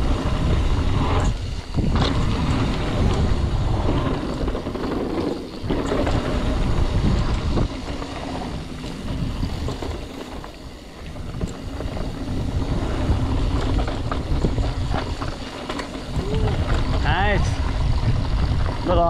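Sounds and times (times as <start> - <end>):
bike clicks and rattles: 0.0 - 19.0
tyres rumbling on dirt: 0.0 - 19.0
wind rushing over microphone: 0.0 - 19.0.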